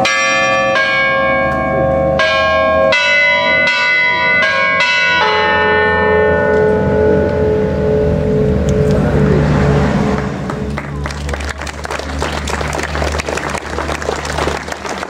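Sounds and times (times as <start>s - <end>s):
church bells playing a melody: 0.0s - 8.9s, 11.8s - 15.0s.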